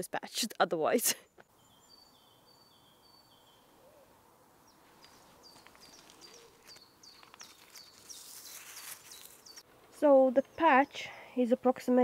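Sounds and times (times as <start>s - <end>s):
bird chirping: 1.2s - 11.2s.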